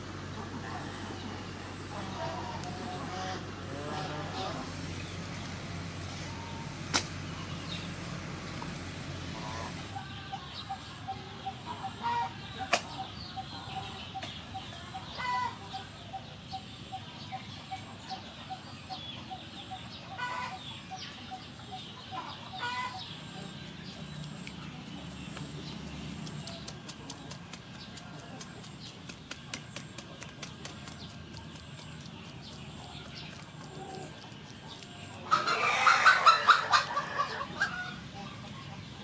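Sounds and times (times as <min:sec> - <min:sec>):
chickens clucking: 0:06.2 - 0:39.0.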